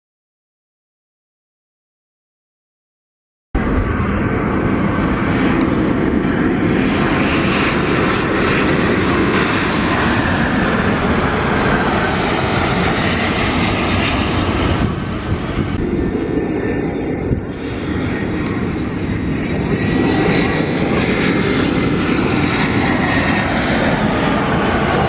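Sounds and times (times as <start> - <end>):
airliner jet rush: 3.6 - 25.0
distant duller jet noise: 3.6 - 25.0.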